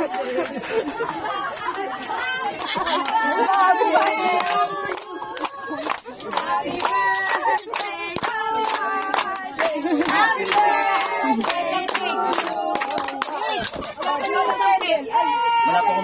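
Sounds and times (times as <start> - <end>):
people clapping: 0.0 - 16.0
group singing: 1.3 - 15.1.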